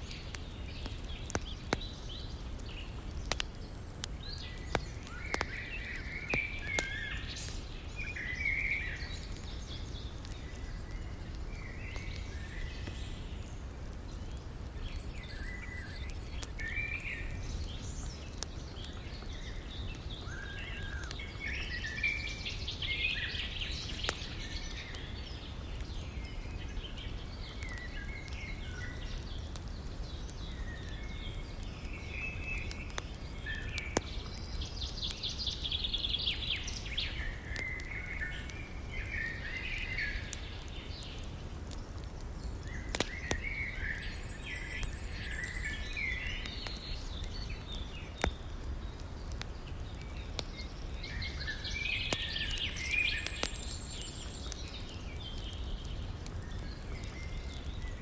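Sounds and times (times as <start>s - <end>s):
campfire crackling and popping: 0.0s - 58.0s
small birds chirping: 0.0s - 58.0s.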